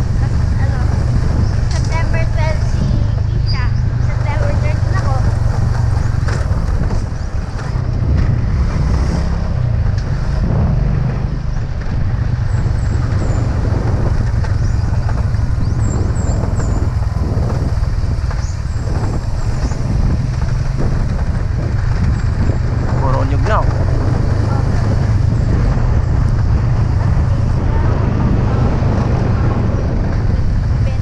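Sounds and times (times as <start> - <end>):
motorcycle engine running: 0.0 - 31.0
road noise: 0.0 - 31.0.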